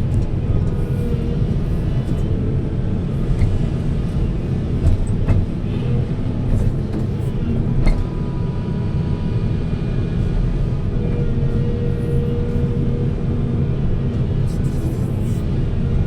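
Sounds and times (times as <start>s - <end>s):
heavy diesel machinery rumbling: 0.0s - 16.0s.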